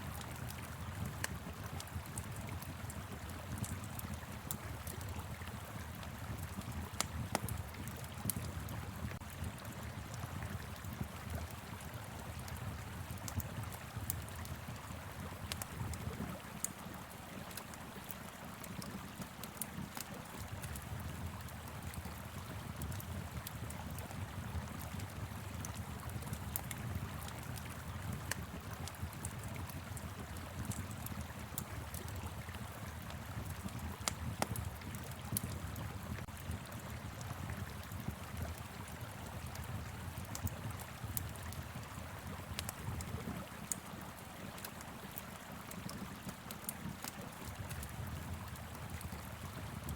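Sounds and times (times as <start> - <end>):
wood fire crackling and popping: 0.1 - 49.9.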